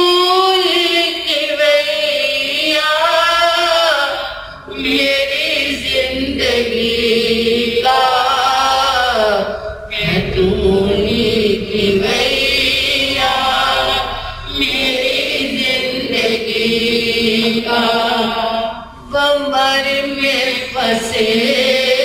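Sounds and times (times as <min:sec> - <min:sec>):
devotional chanting: 0:00.0 - 0:22.0.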